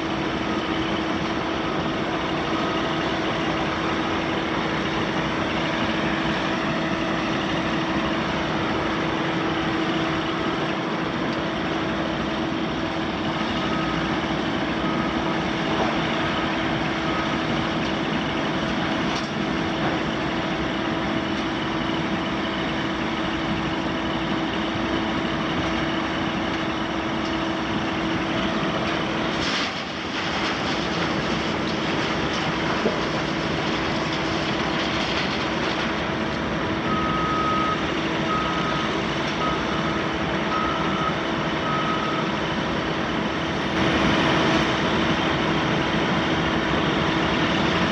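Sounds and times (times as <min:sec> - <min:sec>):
steady machine whine: 0:00.0 - 0:47.9
wheel loader diesel engine running: 0:00.0 - 0:47.9.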